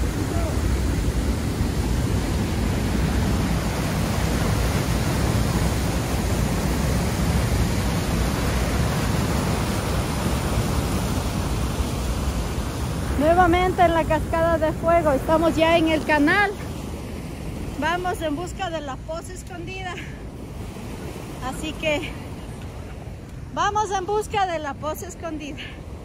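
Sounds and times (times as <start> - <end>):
rushing mountain stream and waterfall: 0.0 - 26.0.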